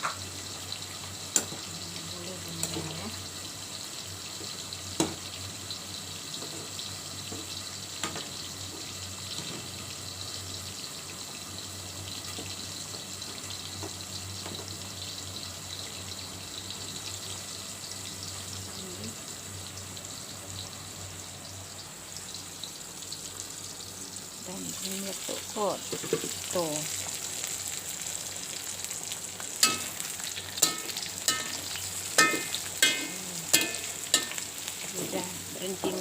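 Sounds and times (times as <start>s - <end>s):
pot boiling and bubbling: 0.0s - 36.0s.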